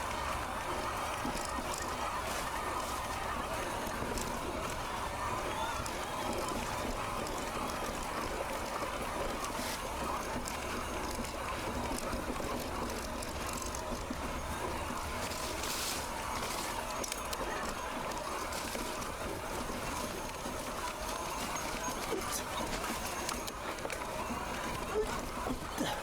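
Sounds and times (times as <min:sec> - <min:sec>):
bike clicks and rattles: 0:00.0 - 0:26.0
bike tyre noise: 0:00.0 - 0:26.0.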